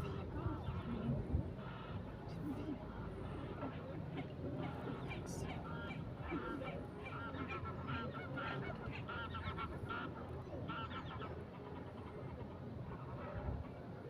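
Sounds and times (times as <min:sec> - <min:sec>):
geese honking: 0:00.0 - 0:13.9.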